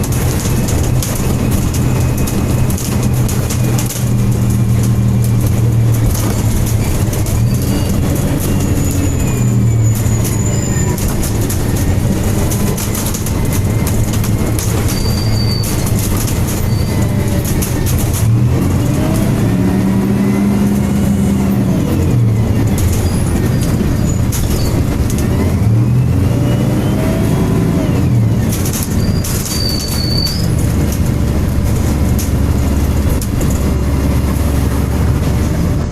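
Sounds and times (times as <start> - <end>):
running rattle: 0.0 - 21.6, 22.2 - 25.8, 28.2 - 35.9
bus engine humming: 0.0 - 35.9.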